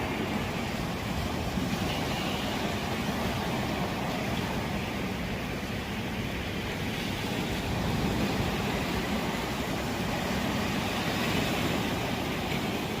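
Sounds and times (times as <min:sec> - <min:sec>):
surf rushing: 0:00.0 - 0:13.0
wind on microphone: 0:00.0 - 0:13.0.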